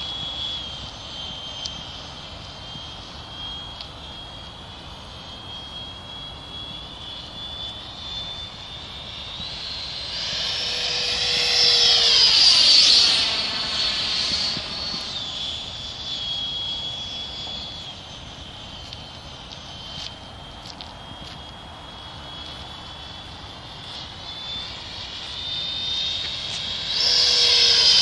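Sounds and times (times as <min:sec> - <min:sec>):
model jet fan whining: 0:00.0 - 0:28.0.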